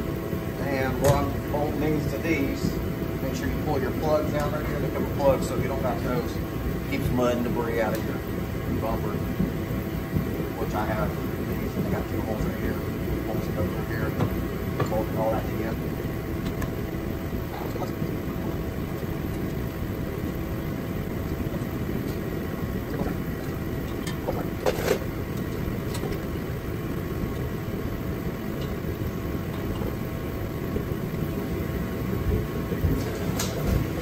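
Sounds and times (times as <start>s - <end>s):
shop heater humming: 0.0s - 34.0s.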